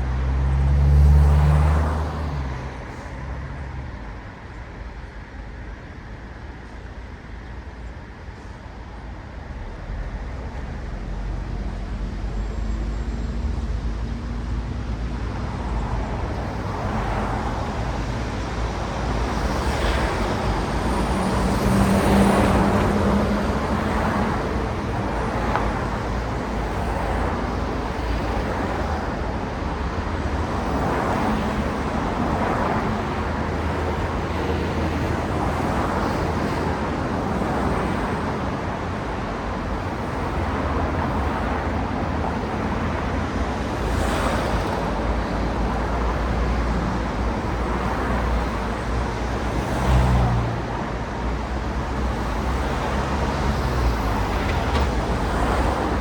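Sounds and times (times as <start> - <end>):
cars passing: 0.0 - 4.2, 13.3 - 56.0.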